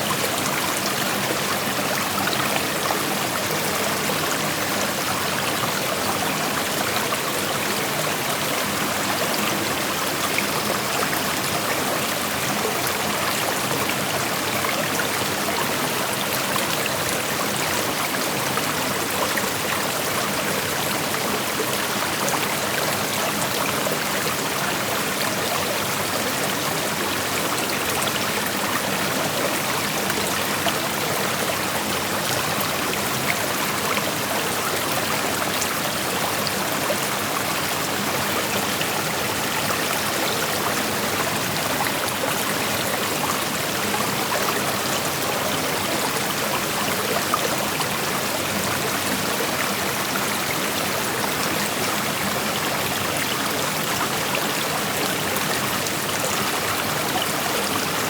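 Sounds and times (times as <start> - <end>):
creek flowing over rocks: 0.0 - 58.0.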